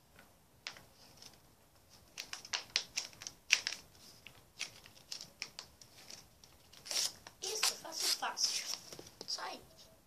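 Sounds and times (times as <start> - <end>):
stiff paper crackling and rustling: 0.7 - 9.2.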